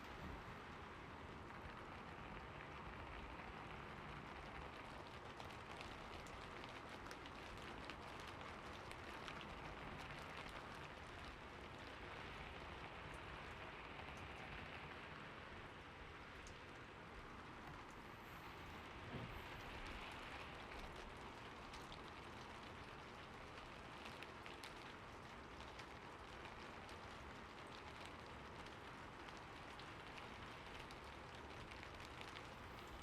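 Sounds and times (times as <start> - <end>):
raindrop ticks: 0.0 - 15.4, 16.1 - 33.0
steady rainfall: 0.0 - 33.0.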